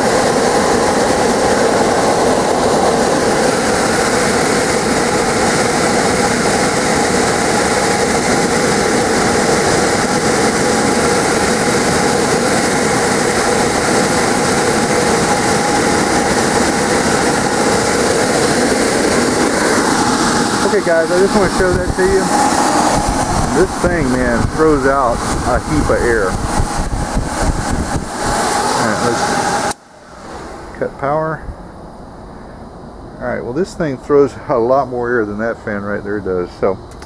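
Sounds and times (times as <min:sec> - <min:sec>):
blower fan rushing air: 0:00.0 - 0:37.0
motor hum: 0:00.0 - 0:37.0.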